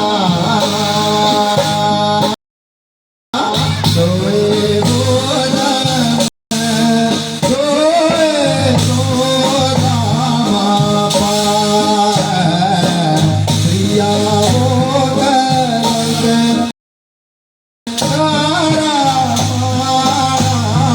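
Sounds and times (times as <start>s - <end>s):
instrumental accompaniment: 0.0s - 2.4s, 3.4s - 16.7s, 17.9s - 20.9s.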